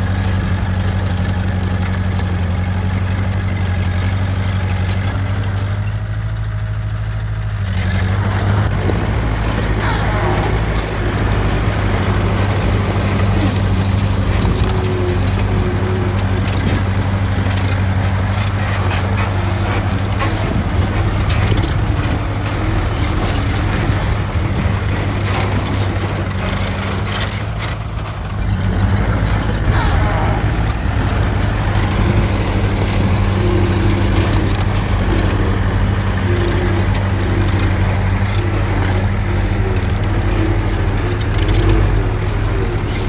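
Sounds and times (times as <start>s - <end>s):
heavy diesel engine running: 0.0s - 43.0s
metallic clinking and clanking: 7.7s - 43.0s.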